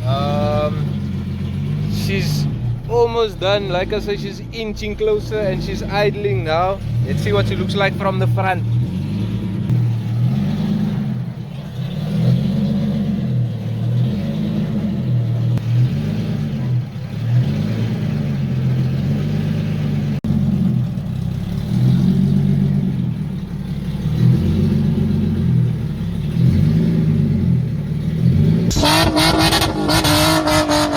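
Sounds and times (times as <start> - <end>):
car engine idling with light revs: 0.0 - 30.9
high-revving engine: 0.0 - 30.9.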